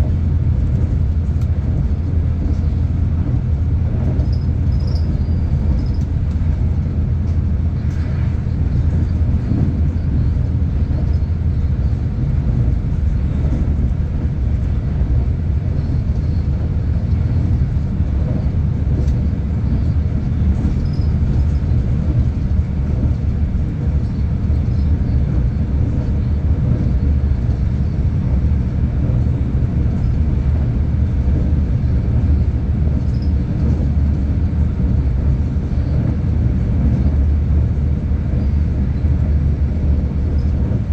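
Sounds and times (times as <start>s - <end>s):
train rumbling on board: 0.0s - 40.9s.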